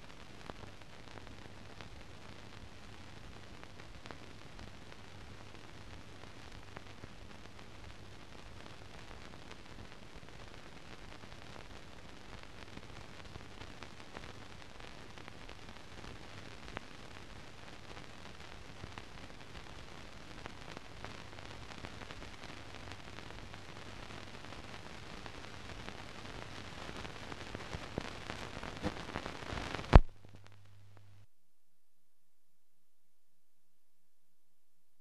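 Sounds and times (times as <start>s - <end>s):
film hiss and crackle: 0.0s - 31.3s.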